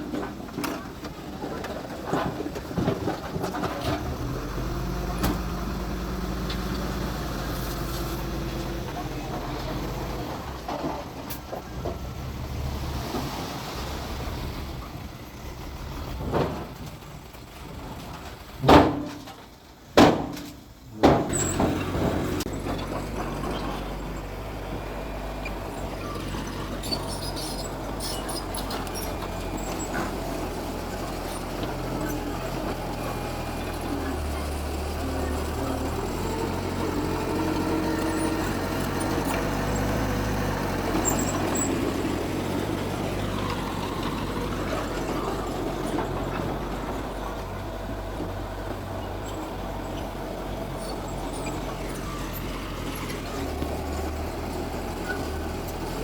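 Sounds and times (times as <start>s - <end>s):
heavy diesel engine running: 0.0s - 18.6s, 20.6s - 56.0s.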